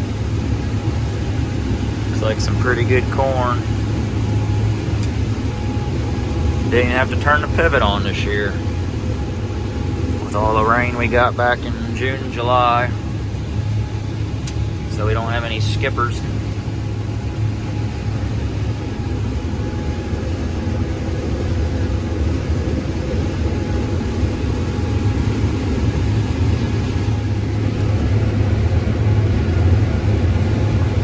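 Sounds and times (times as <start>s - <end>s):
combine harvester engine drone: 0.0s - 31.0s.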